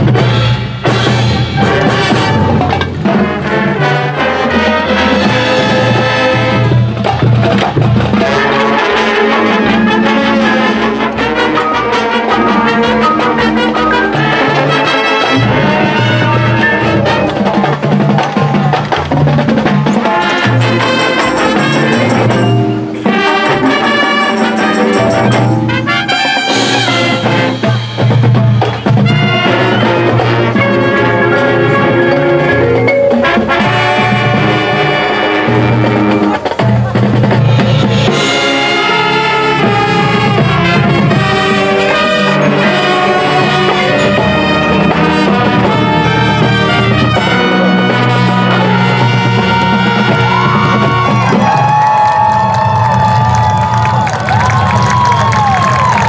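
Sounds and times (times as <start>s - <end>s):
brass chords: 0.0s - 18.2s, 18.8s - 52.0s
drums and percussion: 0.0s - 56.0s
marching band playing: 0.0s - 56.0s.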